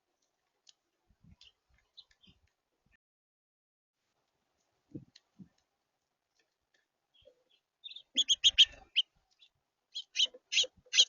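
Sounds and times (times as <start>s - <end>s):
songbird chirping: 0.2s - 3.0s, 4.6s - 11.0s.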